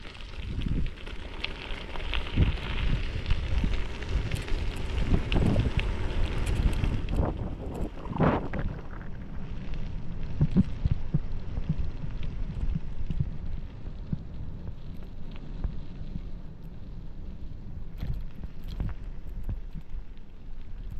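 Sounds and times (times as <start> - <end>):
wind buffeting microphone: 0.0 - 1.2, 2.0 - 20.9.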